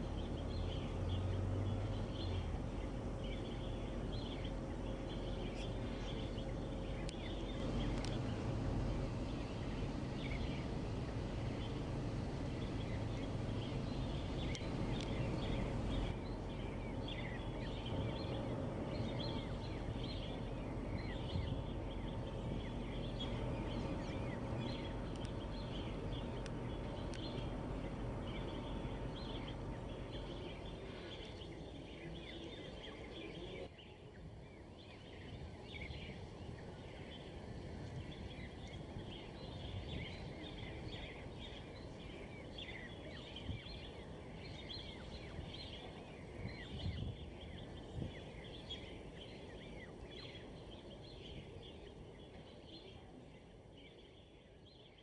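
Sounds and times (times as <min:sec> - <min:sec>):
low background rumble: 0:00.0 - 0:55.0
many birds chirping: 0:00.0 - 0:55.0.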